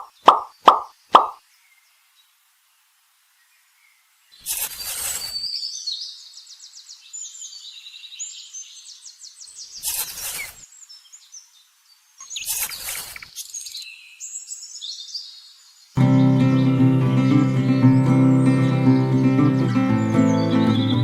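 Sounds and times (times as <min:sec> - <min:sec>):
small birds chirping: 0:00.0 - 0:02.4, 0:03.3 - 0:21.0.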